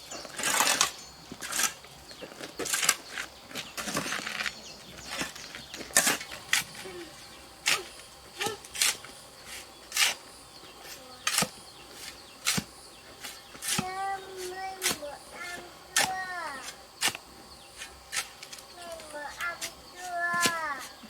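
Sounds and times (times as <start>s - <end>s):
faint outdoor background: 0.0s - 21.0s
sharp knocks and scrapes: 0.1s - 21.0s.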